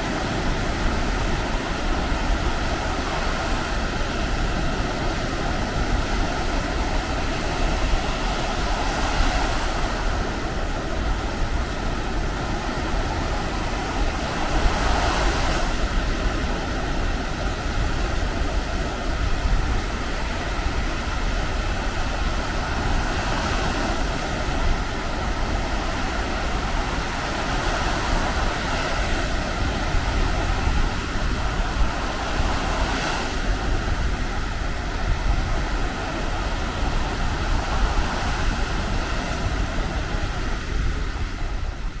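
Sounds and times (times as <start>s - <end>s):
surf washing onto sandy beach: 0.0s - 42.0s
wind rumbling on microphone: 0.0s - 42.0s.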